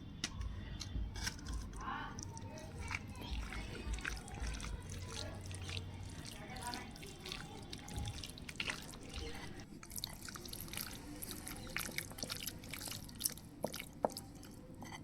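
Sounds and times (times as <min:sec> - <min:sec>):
water dripping and trickling: 0:01.5 - 0:14.7.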